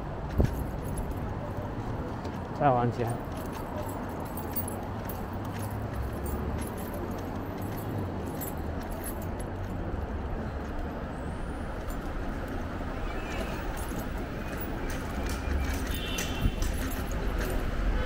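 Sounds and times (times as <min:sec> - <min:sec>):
street noise: 0:00.0 - 0:18.0.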